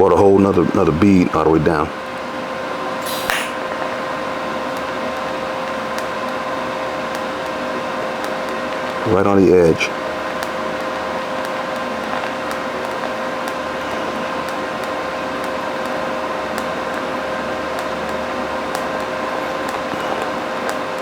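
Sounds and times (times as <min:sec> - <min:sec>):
welding arc hiss and buzz: 0:00.0 - 0:21.0.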